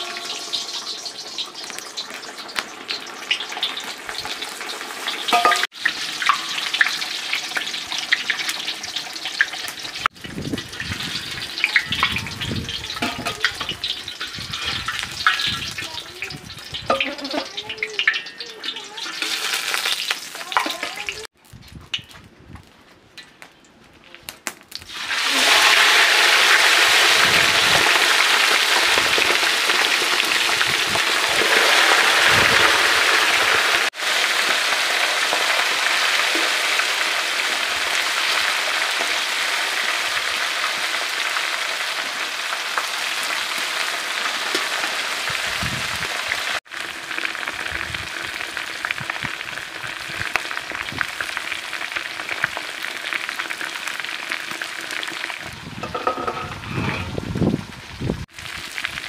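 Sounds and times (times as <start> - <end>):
hot oil sizzling: 0.0 - 22.2, 24.4 - 59.0.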